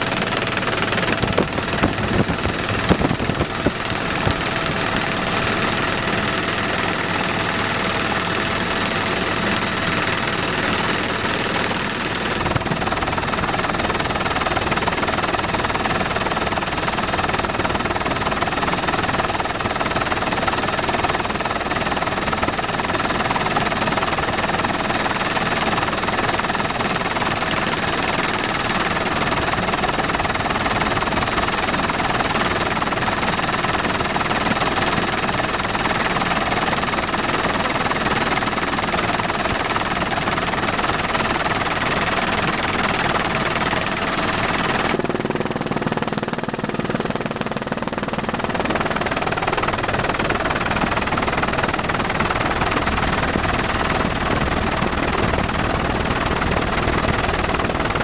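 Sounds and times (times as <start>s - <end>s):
helicopter engine and rotor rush: 0.0s - 58.0s.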